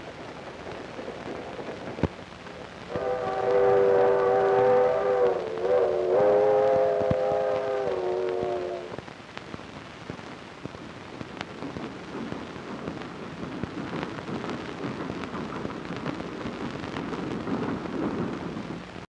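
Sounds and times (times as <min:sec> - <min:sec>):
film soundtrack crackle and hiss: 0:00.0 - 0:19.0.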